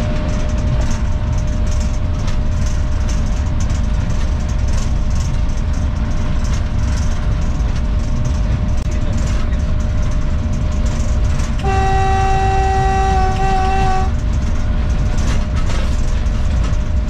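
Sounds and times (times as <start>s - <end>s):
diesel locomotive rumbling at speed: 0.0s - 17.0s.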